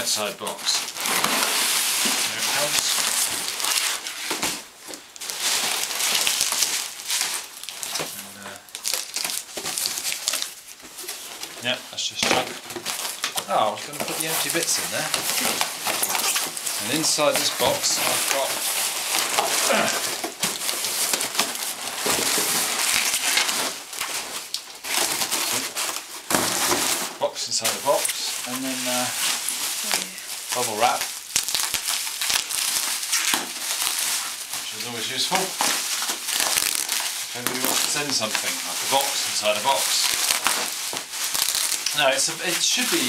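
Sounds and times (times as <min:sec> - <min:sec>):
paper and cardboard rustling: 0:00.0 - 0:43.0.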